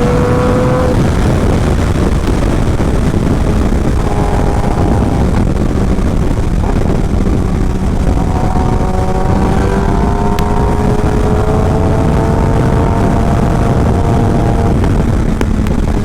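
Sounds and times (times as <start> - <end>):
motorcycle engine rumble: 0.0 - 16.0
wind rush: 0.0 - 16.0.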